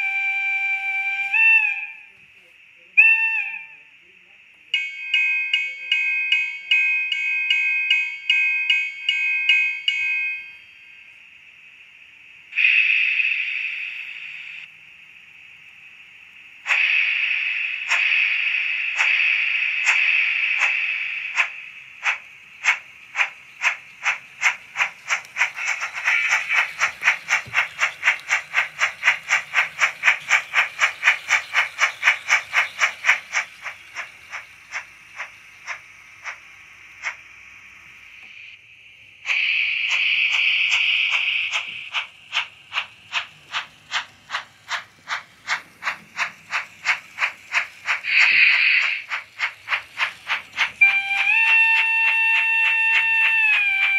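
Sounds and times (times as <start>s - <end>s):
steam hiss: 0.0s - 3.2s, 10.8s - 53.9s
model locomotive steam chuffs: 0.0s - 4.8s, 8.2s - 53.9s.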